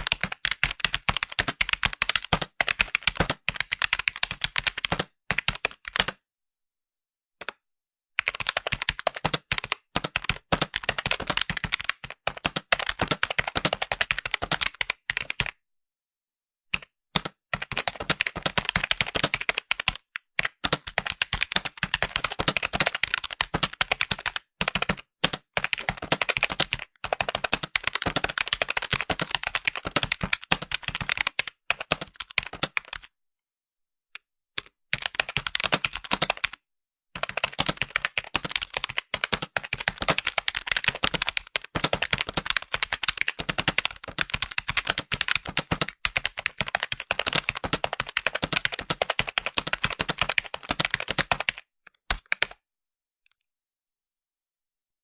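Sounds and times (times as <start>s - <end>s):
fast typing on keyboard: 0.0s - 6.2s, 8.2s - 15.6s, 16.7s - 33.1s, 34.6s - 52.6s.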